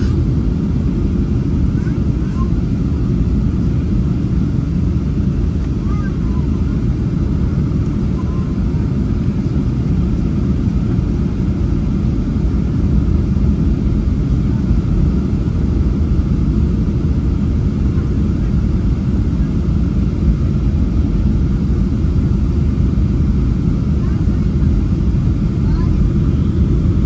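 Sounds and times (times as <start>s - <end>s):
jet engines rumbling in cabin: 0.0s - 27.0s.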